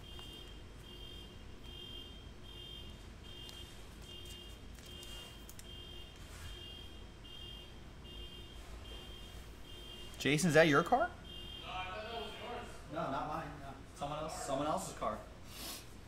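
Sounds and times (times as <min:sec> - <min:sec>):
faint car alarm beeping: 0:00.0 - 0:12.9.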